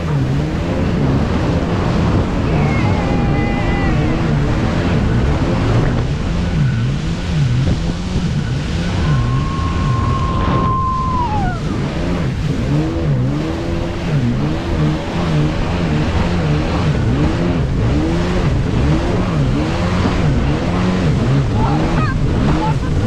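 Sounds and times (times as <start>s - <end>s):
high whine: 0.0s - 23.0s
jet ski engine running hard: 0.0s - 23.0s
water spray rushing: 0.0s - 23.0s
wind: 0.0s - 23.0s.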